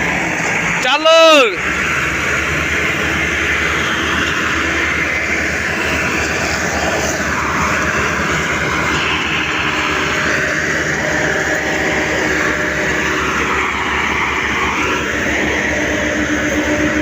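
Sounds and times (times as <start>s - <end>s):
tractor diesel engines droning: 0.0s - 17.0s.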